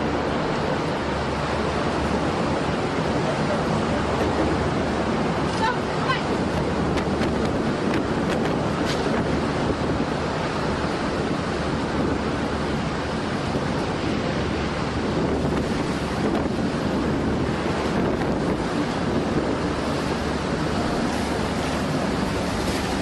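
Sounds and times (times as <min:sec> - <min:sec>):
strong wind blowing: 0:00.0 - 0:23.0.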